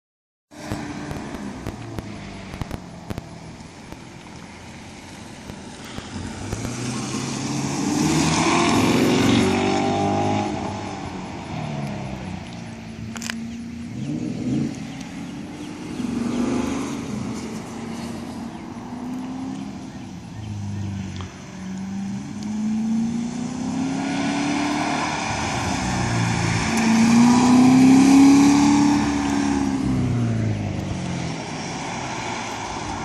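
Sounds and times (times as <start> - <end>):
car engine revving: 0.6 - 33.0.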